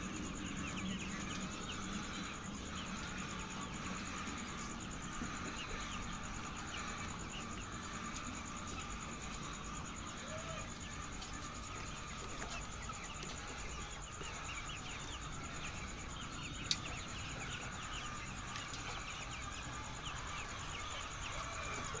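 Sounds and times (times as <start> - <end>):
birds chirping: 0.0 - 22.0
high insect-like trill: 0.0 - 22.0.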